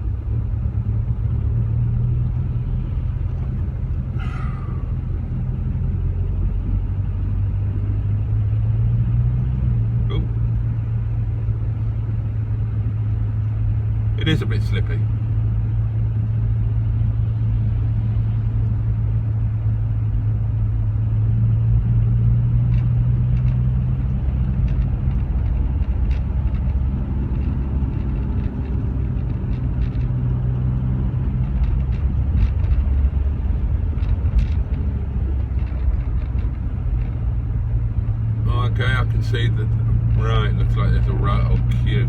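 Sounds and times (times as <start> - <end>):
car engine humming: 0.0 - 42.0
road and tyre noise: 0.0 - 42.0.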